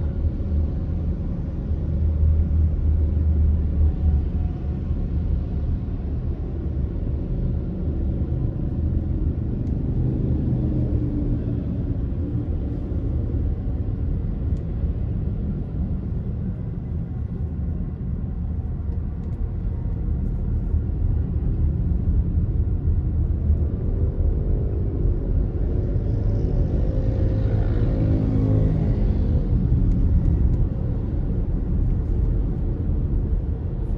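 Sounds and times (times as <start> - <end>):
car engine and road rumble: 0.0 - 33.9.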